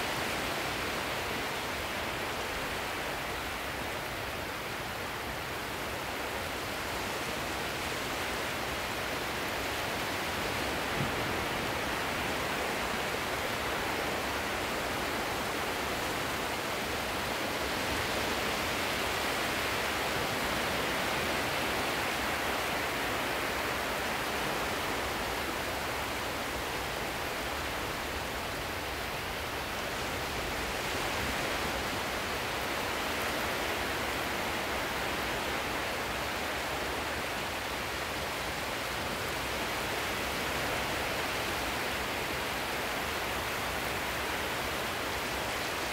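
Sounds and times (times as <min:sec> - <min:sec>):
sea surf washing: 0:00.0 - 0:45.9.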